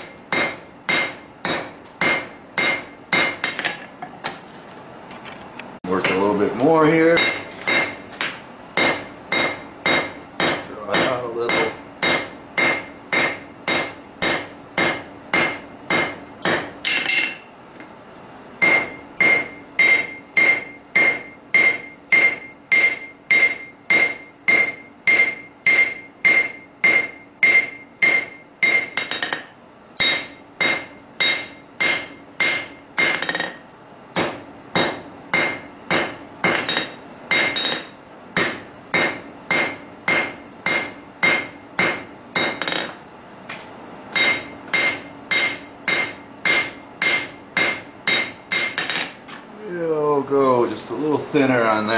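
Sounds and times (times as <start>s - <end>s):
hammer ringing on steel: 0.3s - 3.5s, 7.1s - 17.4s, 18.6s - 33.6s, 34.2s - 42.9s, 44.2s - 49.1s.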